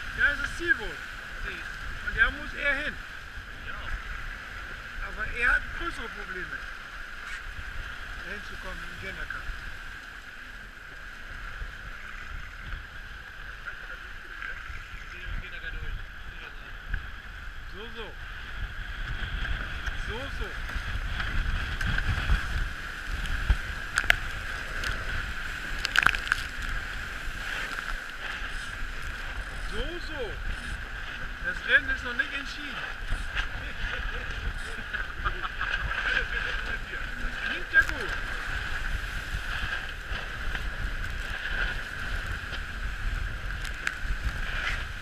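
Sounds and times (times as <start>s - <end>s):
water rushing along hulls: 0.0s - 45.0s
waves slapping boat: 0.0s - 45.0s
wind buffeting microphone: 0.0s - 45.0s.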